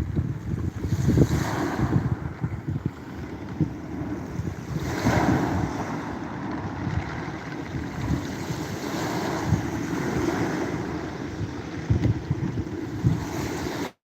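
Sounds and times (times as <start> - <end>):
waves breaking on beach: 0.0 - 14.0
wind on microphone: 0.0 - 14.0.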